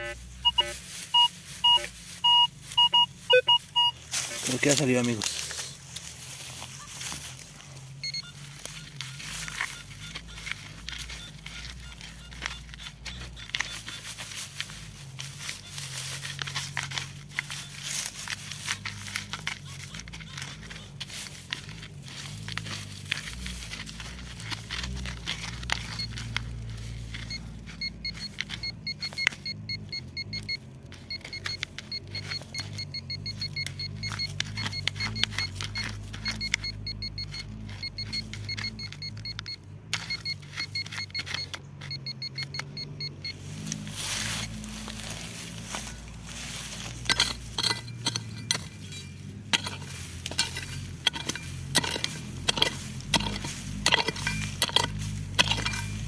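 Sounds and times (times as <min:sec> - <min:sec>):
digging in stony ground: 0:00.0 - 0:56.0
metal detector pulsing tone: 0:00.0 - 0:56.0.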